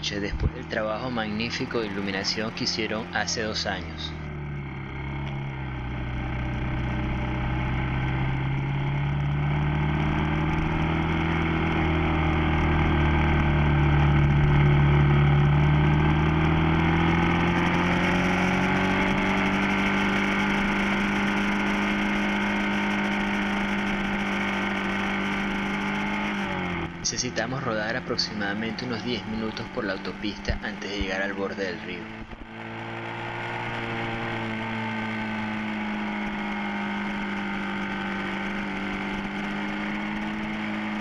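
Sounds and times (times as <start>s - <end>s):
motorcycle engine running: 0.0s - 41.0s
road and wind noise: 0.0s - 41.0s.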